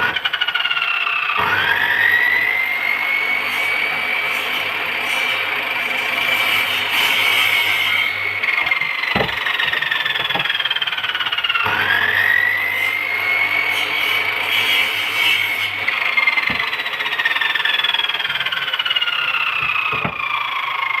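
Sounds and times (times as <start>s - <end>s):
power tool motor whining: 0.0s - 21.0s.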